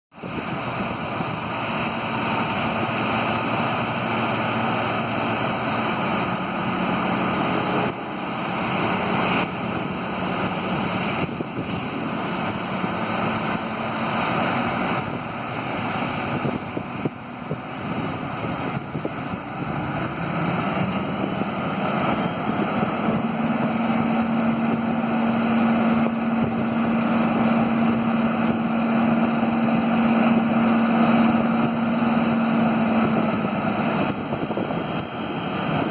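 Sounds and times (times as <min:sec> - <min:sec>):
diesel engine running: 0:00.1 - 0:35.9.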